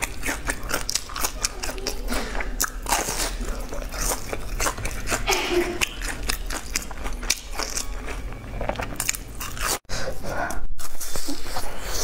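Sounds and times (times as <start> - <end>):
crispy food crunching: 0.0 - 9.9.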